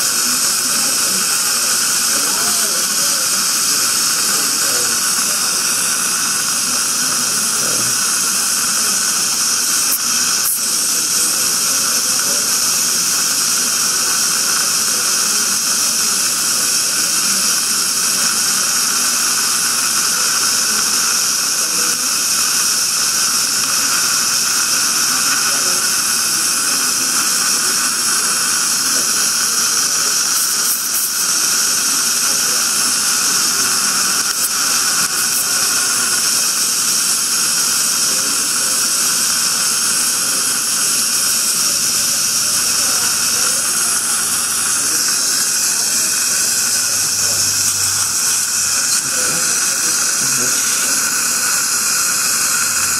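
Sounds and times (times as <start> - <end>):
dental suction hissing: 0.0 - 52.9.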